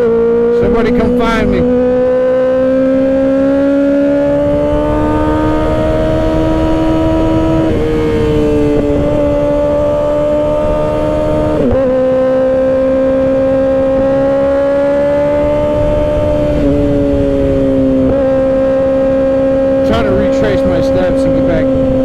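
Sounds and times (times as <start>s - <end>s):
motorcycle engine cruising: 0.0s - 22.0s
wind rush on microphone: 2.8s - 22.0s.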